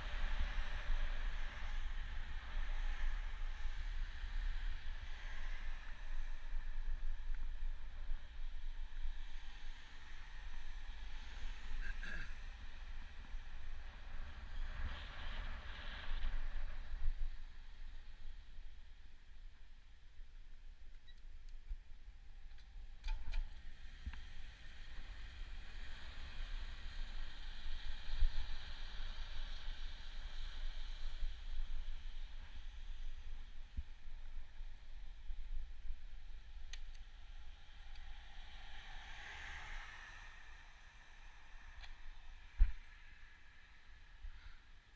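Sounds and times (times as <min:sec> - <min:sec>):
road noise hiss: 0:00.0 - 0:20.8, 0:22.7 - 0:44.9
wind rumbling on microphone: 0:00.0 - 0:44.9.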